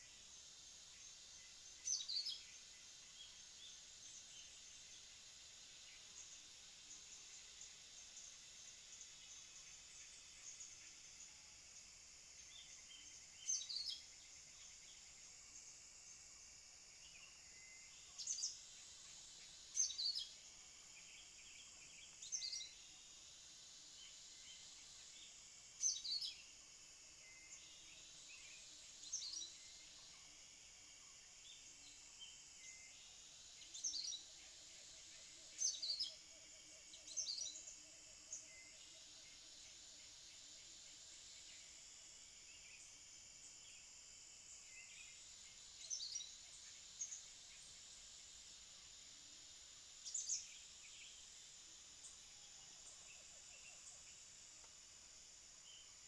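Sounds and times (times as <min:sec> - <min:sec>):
high insect hiss: 0:00.0 - 0:56.0.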